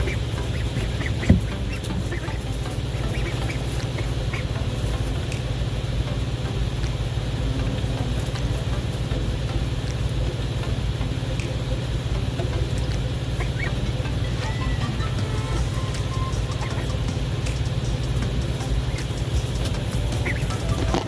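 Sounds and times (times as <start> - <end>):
ducks quacking faintly: 0.0 - 21.0.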